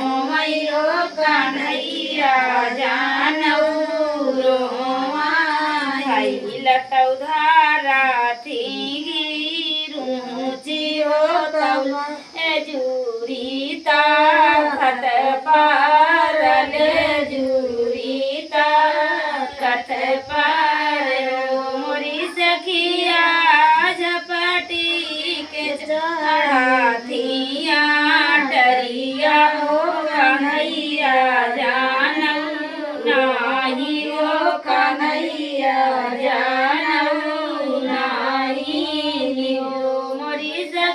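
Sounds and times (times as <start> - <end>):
women singing folk song: 0.0 - 40.9.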